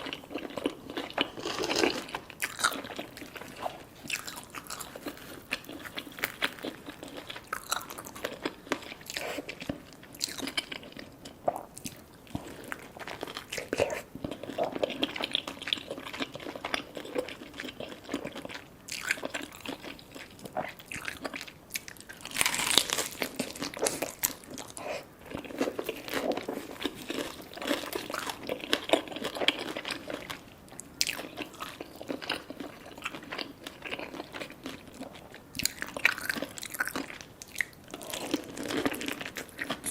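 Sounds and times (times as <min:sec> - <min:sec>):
crunchy fried food chewing: 0:00.0 - 0:39.9.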